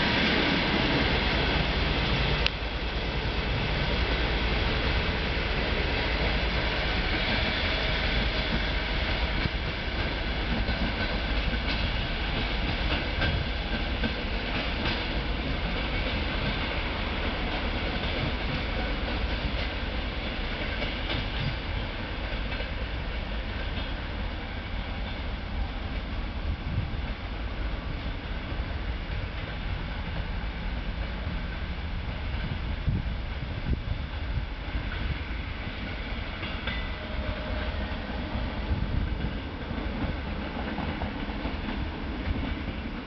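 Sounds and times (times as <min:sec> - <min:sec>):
train wheels rolling on rails: 0:00.0 - 0:43.0.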